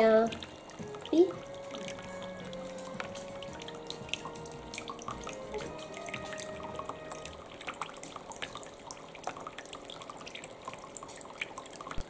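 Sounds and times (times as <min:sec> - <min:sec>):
quick drips and splashes: 0:00.0 - 0:12.0
water trickling into basin: 0:00.0 - 0:12.0.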